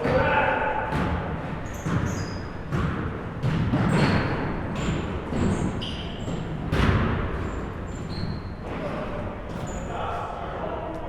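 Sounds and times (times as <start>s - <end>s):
basketball bouncing on gym floor: 0.0s - 9.8s
sneaker squeaks: 0.0s - 10.3s.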